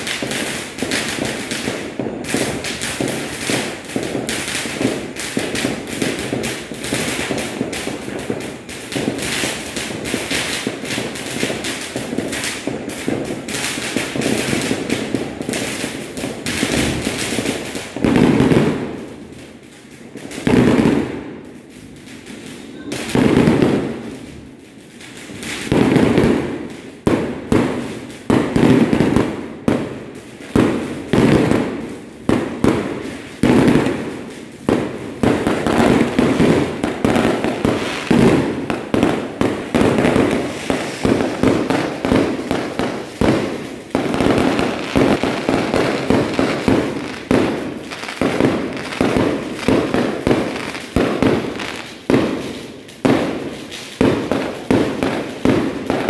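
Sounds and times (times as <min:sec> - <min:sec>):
fireworks banging: 0:00.0 - 0:56.0.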